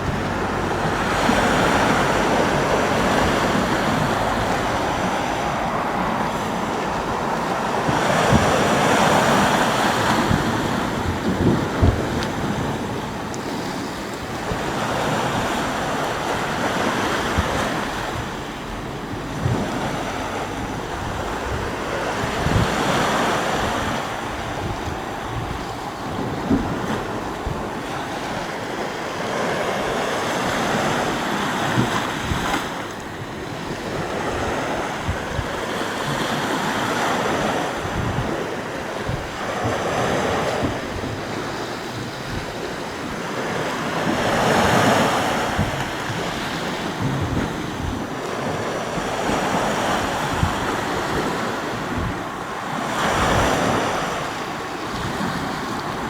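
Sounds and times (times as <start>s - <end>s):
sea waves washing: 0.0s - 56.0s
wind buffeting microphone: 0.0s - 56.0s.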